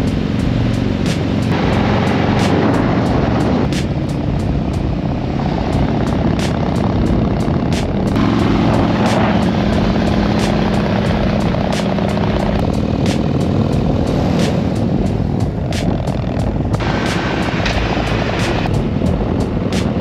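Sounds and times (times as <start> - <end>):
motorcycle engine rumble: 0.0 - 20.0
music playing: 0.0 - 20.0
wind noise: 0.0 - 20.0.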